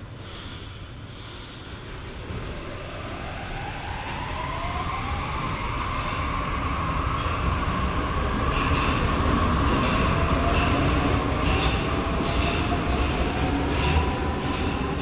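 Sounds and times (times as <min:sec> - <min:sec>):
metro train pulling out: 0:00.0 - 0:15.0
rising train whine: 0:00.0 - 0:15.0
wheels rumbling on rails: 0:01.9 - 0:15.0.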